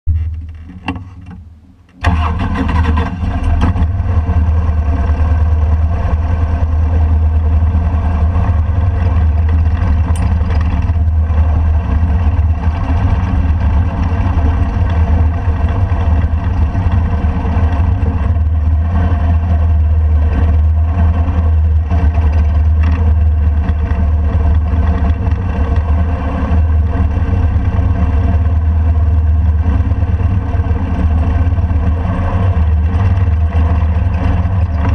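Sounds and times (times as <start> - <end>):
motorcycle engine starting and running: 0.0 - 34.9.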